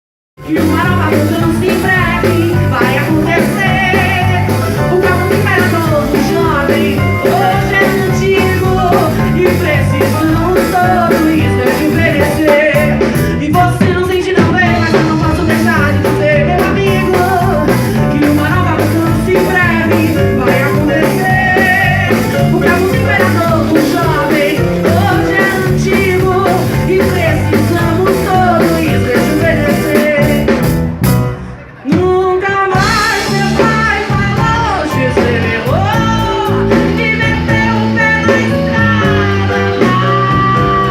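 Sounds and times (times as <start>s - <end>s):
person singing with band: 0.4s - 30.7s, 31.5s - 40.9s.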